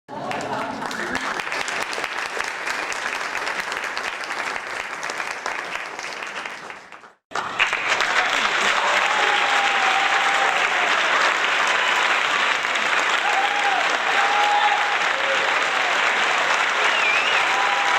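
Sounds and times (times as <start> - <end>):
crowd applause: 0.1 - 17.9.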